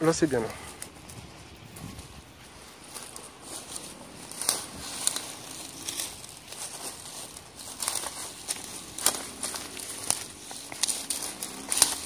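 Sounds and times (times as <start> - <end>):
dry grass crackling underfoot: 0.0 - 12.0.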